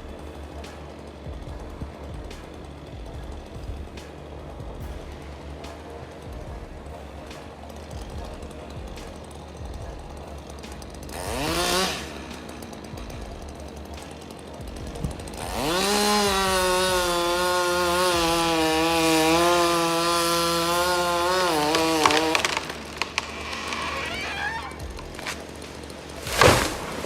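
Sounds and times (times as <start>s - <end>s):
chainsaw engine revving: 0.0s - 27.0s.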